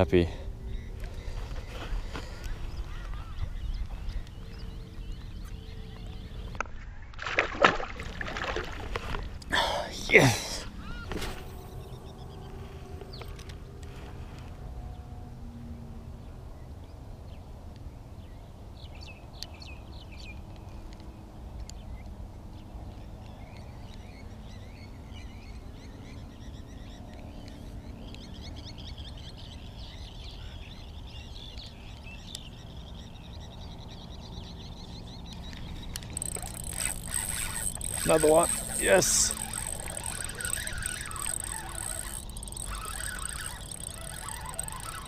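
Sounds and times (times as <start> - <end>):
small birds twittering: 0.0 - 6.6, 9.4 - 14.1, 18.2 - 45.0.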